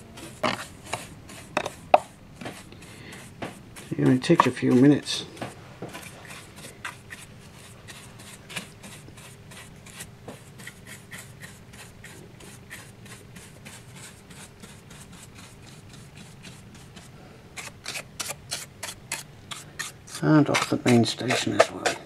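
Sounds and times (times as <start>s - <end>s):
brush sweeping dust: 0.0s - 22.0s.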